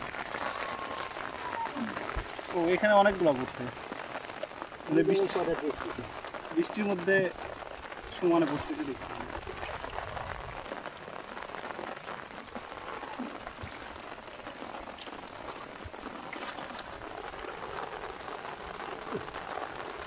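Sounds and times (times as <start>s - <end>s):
rain pattering on umbrella: 0.0s - 20.0s.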